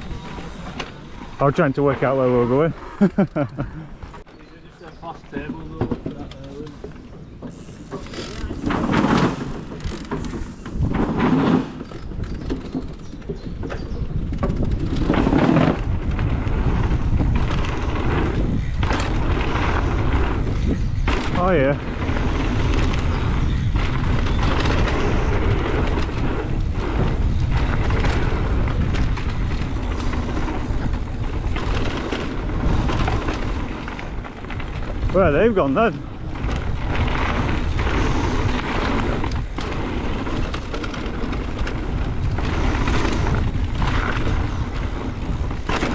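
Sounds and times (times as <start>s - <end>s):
bike rattle: 0.0s - 4.3s, 5.5s - 45.9s
bike tyres rolling on dirt: 0.0s - 45.9s
wind on microphone: 7.5s - 45.9s.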